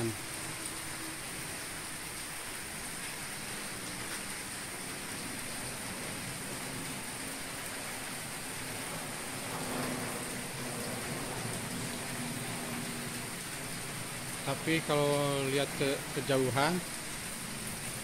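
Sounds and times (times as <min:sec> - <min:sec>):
rain on wet pavement: 0:00.0 - 0:18.0.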